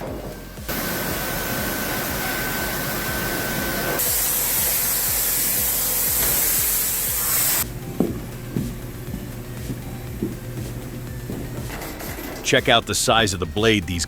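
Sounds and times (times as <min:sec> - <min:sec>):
thin steady whine: 0:00.0 - 0:14.0
sawmill machinery hissing rush: 0:00.4 - 0:13.6.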